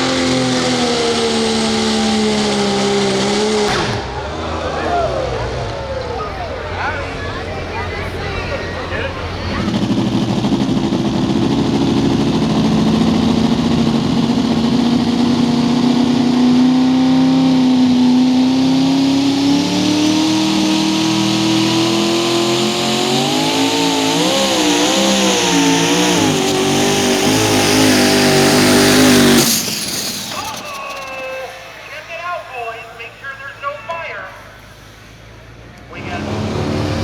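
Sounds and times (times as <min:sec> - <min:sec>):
engine at full throttle: 0:00.0 - 0:32.0, 0:34.4 - 0:37.0.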